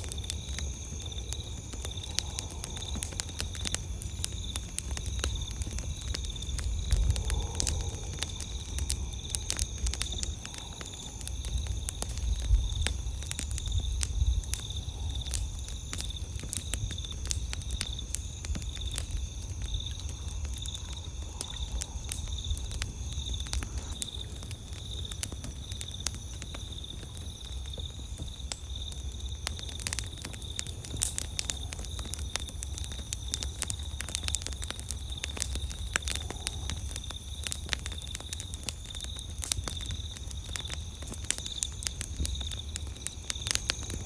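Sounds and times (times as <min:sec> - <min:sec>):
campfire crackling and popping: 0:00.0 - 0:44.0
insects trilling: 0:00.0 - 0:44.0.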